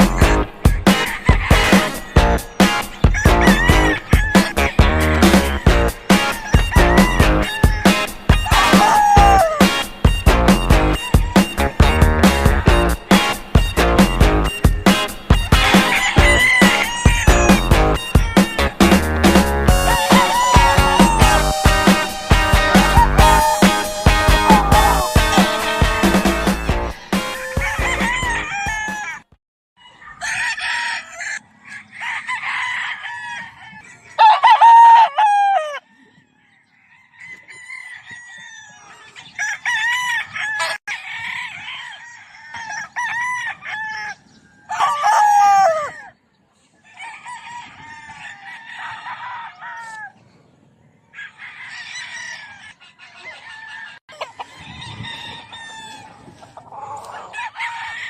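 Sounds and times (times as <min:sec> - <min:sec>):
roosters crowing: 0:00.0 - 0:46.2, 0:46.8 - 0:50.2, 0:51.0 - 0:58.0.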